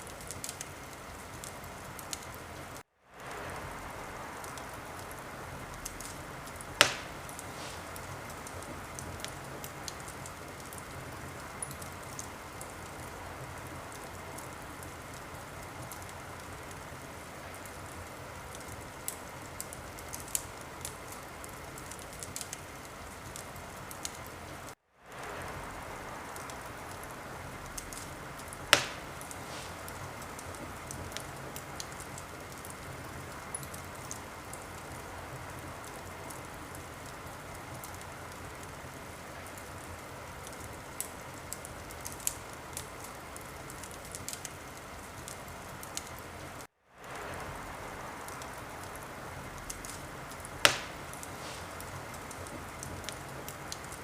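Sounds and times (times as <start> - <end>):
loud pops of fire: 0.0 - 54.0
wood fire crackling: 0.0 - 54.0.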